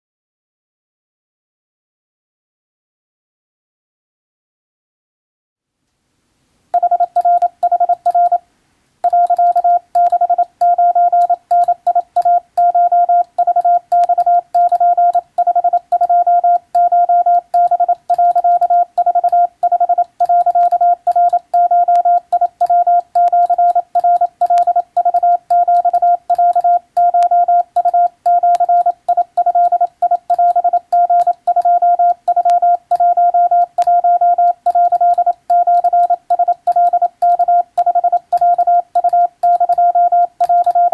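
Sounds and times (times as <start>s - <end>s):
morse code beeps: 6.8s - 8.4s, 9.0s - 40.9s.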